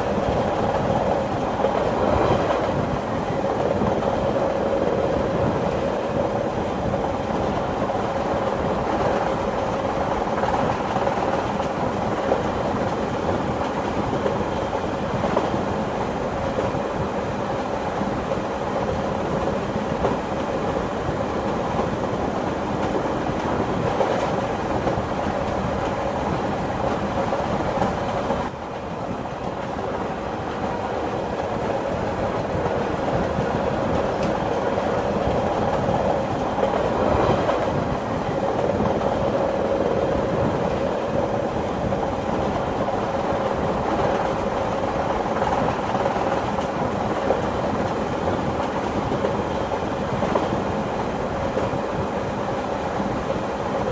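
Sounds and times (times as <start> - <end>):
train rumble: 0.0 - 53.9.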